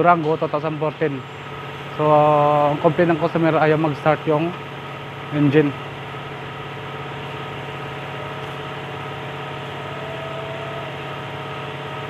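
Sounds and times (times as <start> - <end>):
car engine idling: 1.1 - 12.0.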